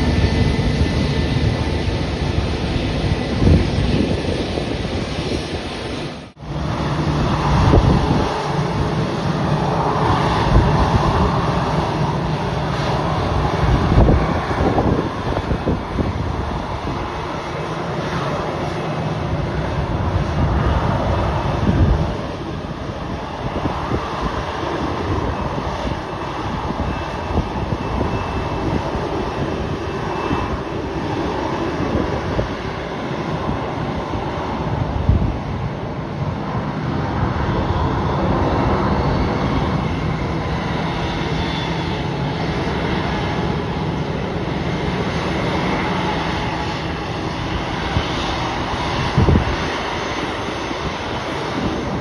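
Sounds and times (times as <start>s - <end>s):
jet engines rushing: 0.0s - 52.0s.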